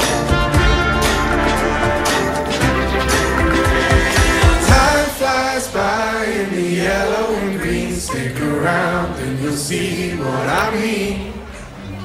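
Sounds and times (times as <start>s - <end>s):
background music: 0.0s - 12.0s
voices singing together: 2.1s - 11.8s.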